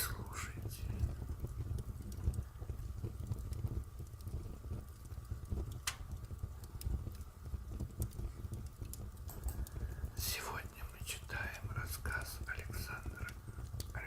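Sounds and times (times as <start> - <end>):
fire crackling in fireplace: 0.0 - 14.0.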